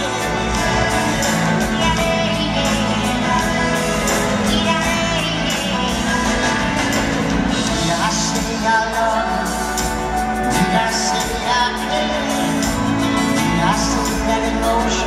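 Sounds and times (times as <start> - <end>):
live pop-rock band: 0.0 - 15.0
man singing lead vocal: 0.0 - 15.0.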